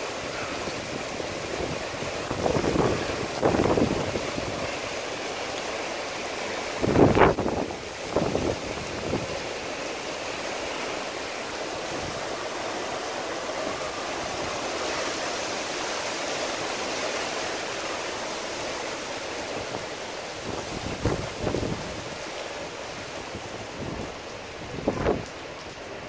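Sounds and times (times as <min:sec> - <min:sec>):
heavy rain on pavement: 0:00.0 - 0:26.0.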